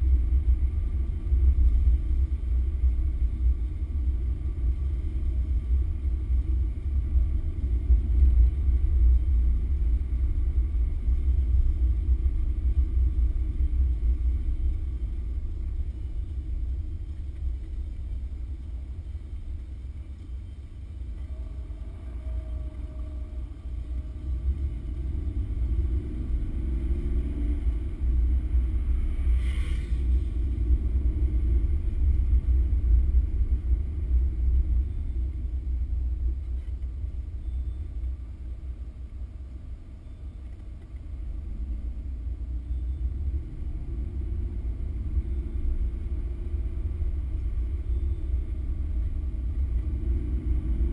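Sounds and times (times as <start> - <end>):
car engine rumble: 0.0 - 50.9.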